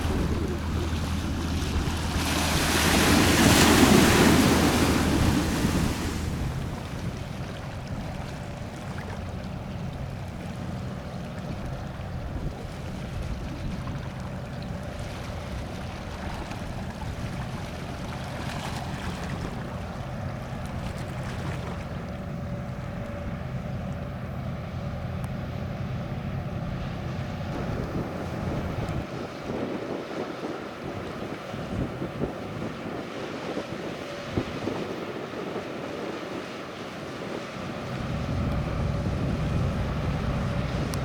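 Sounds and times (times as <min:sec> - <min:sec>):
boat engine droning: 0:00.0 - 0:41.0
wind buffeting microphone: 0:00.0 - 0:41.0.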